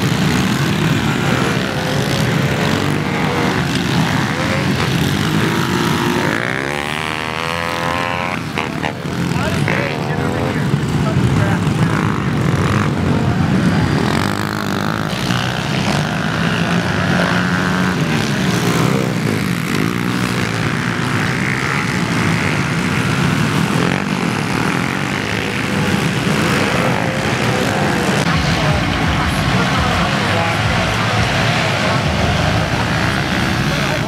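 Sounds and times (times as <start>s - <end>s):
small motorbike engines racing: 0.0s - 34.0s.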